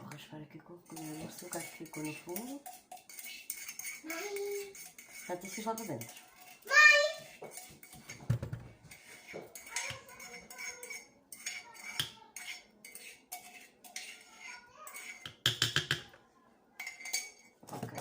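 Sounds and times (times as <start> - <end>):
spoon scraping and clinking dish: 0.0 - 16.2, 16.8 - 18.0.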